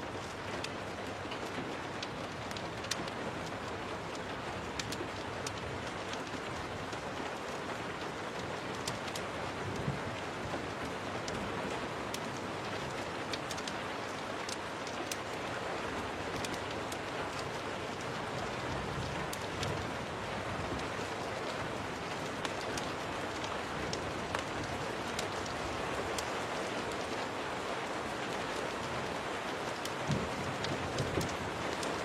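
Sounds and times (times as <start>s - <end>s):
steady rain: 0.0s - 32.0s
sharp ticks and crackles: 0.2s - 32.0s.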